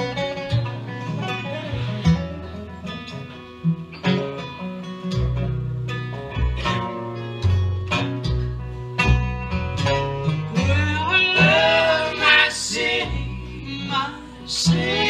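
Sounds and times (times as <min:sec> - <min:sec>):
bass line: 0:00.0 - 0:15.0
plucked guitar: 0:00.0 - 0:15.0
sliding lead melody: 0:00.0 - 0:15.0.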